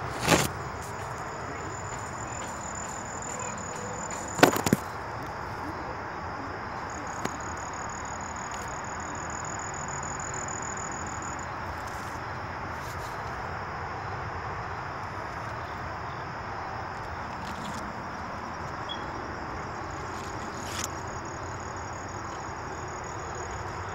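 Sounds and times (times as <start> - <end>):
high insect drone: 0.0 - 23.9
outdoor background hiss: 0.0 - 23.9.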